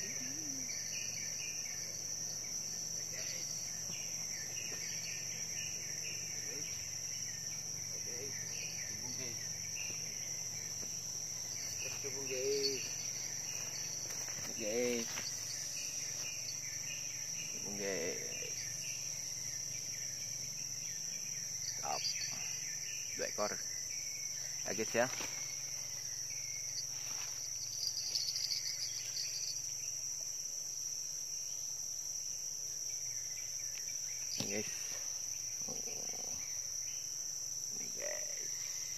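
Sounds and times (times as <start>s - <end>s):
fast pulsing insect chirp: 0.0s - 38.9s
high-pitched insect chorus: 0.0s - 38.9s.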